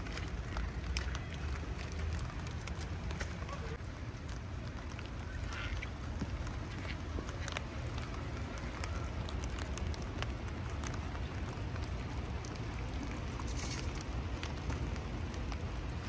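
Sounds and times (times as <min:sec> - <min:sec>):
raindrops ticking: 0:00.0 - 0:16.0
steady low rain rumble: 0:00.0 - 0:16.0.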